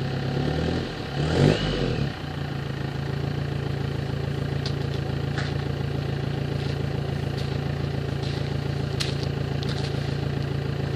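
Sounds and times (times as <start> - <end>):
diesel engine exhaust idling: 0.0 - 10.9.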